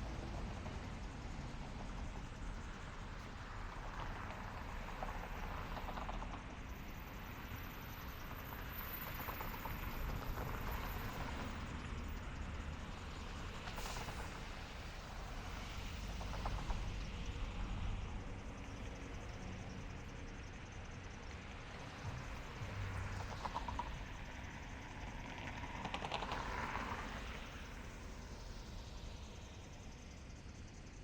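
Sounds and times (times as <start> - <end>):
traffic rumble: 0.0 - 30.8.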